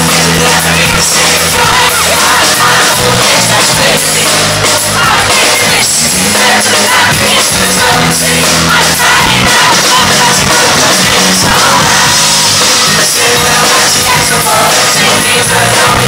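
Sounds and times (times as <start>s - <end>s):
crowd noise: 0.0s - 16.0s
live pop-rock band: 0.0s - 16.0s
male lead vocal: 0.0s - 16.0s.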